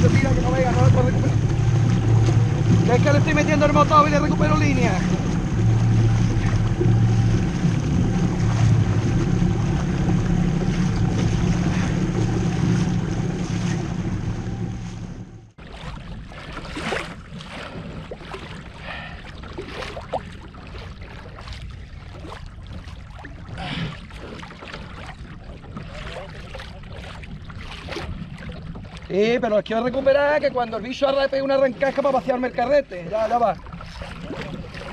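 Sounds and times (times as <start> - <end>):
water rushing along hull: 0.0 - 34.9
water splashing and lapping: 0.0 - 34.9.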